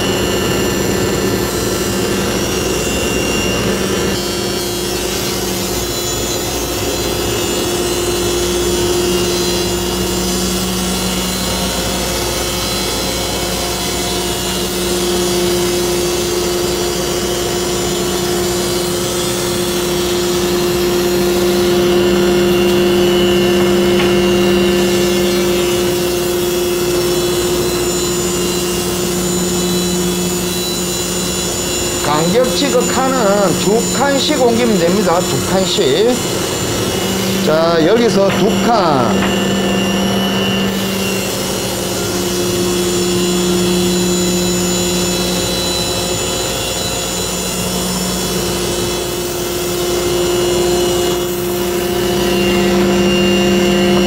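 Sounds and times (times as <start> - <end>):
dust collection hose drawing air: 0.0 - 47.2
sanding machine whining: 0.0 - 54.0.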